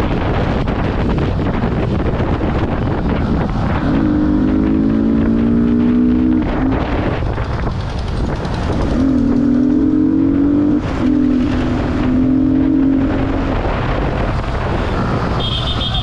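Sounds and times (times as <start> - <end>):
motorcycle engine accelerating: 0.0 - 16.0
wind rush on microphone: 0.0 - 16.0.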